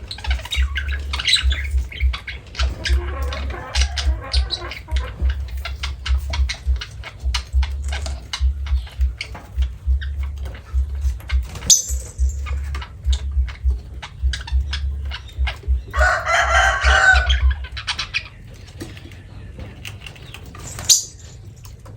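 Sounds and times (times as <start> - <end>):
low bumping rumble: 0.0 - 18.8
parrot squawking: 0.0 - 18.8
parrots chattering: 0.0 - 21.8.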